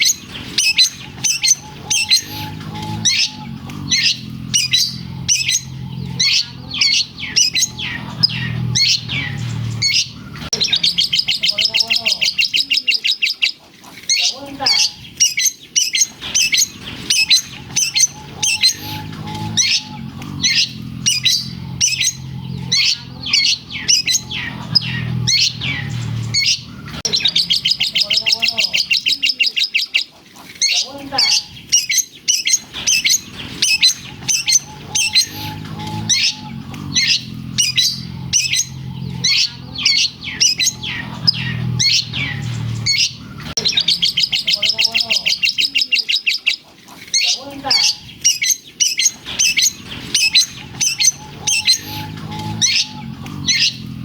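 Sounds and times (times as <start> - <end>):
shrike singing sharp chirps: 0.0 - 13.4, 14.1 - 29.7, 30.6 - 46.2, 47.2 - 54.0.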